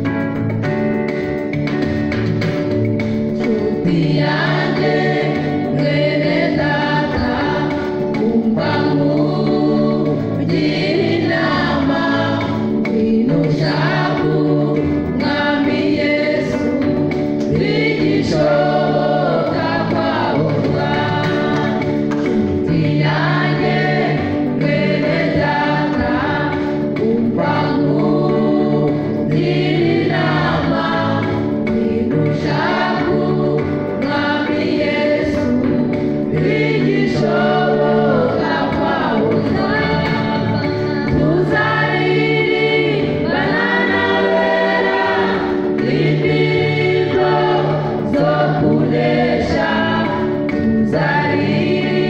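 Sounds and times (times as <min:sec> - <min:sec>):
choir singing gospel song: 0:00.0 - 0:52.0
electric keyboard accompaniment: 0:00.0 - 0:52.0.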